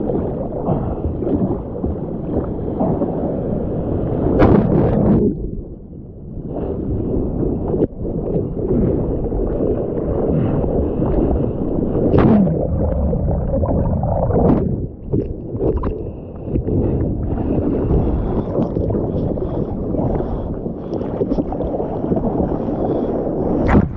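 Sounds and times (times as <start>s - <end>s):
seawater rushing and gurgling: 0.0s - 23.9s.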